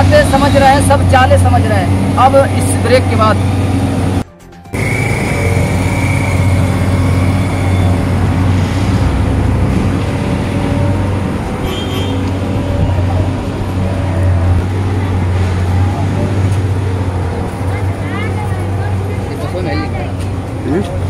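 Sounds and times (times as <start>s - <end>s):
vehicle engines droning: 0.0s - 21.0s.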